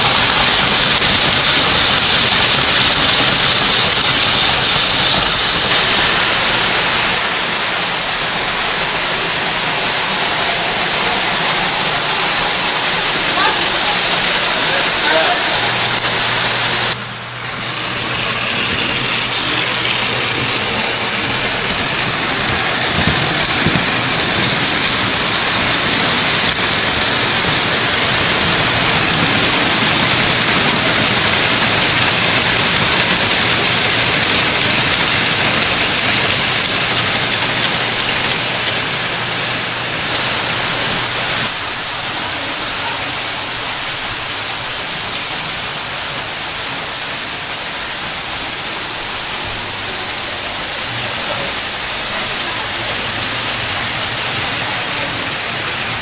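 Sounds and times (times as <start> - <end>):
toy train wheels rumbling on rails: 0.0 - 56.0.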